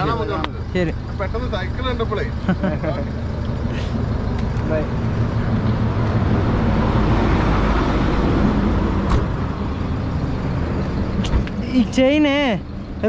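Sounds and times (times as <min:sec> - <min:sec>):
road traffic engines: 0:00.0 - 0:13.0.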